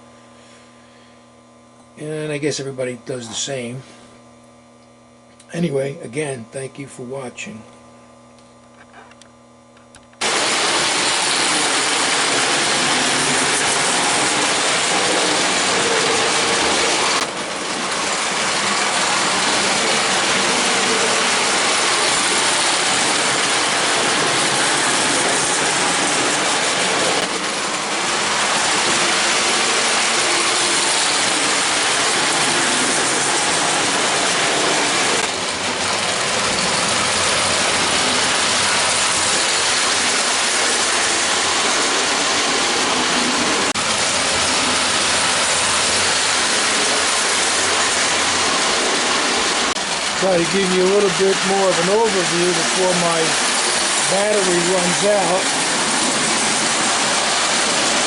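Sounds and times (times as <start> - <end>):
tin cars rattling on track: 10.2 - 58.0
toy train motor and gears: 10.2 - 58.0.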